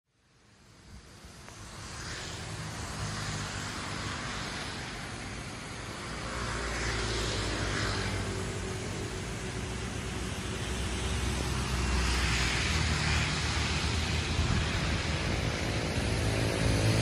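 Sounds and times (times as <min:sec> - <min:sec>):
road traffic passing: 0:00.1 - 0:17.0.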